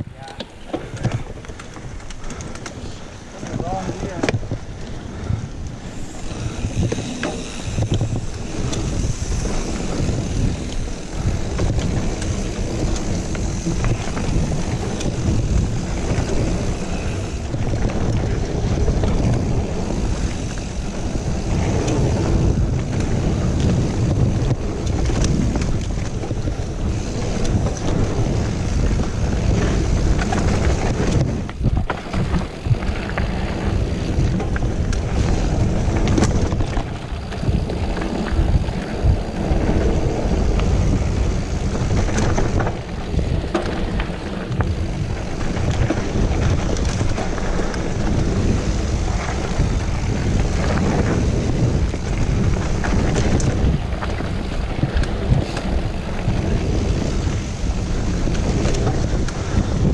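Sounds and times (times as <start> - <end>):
bike clicks and rattles: 0.0 - 59.9
tyres rolling on dirt: 0.0 - 59.9
wind on microphone: 0.0 - 59.9.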